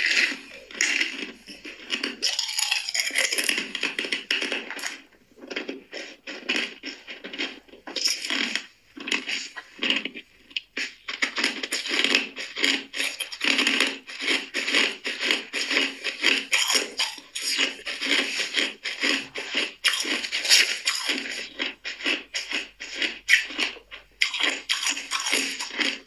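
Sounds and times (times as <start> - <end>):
ice cubes crunched by teeth: 0.0 - 26.0.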